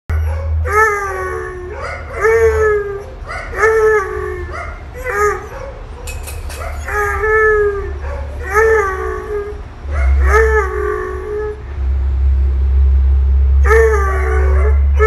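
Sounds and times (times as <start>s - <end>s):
dog howling: 0.2s - 11.6s, 13.6s - 15.0s.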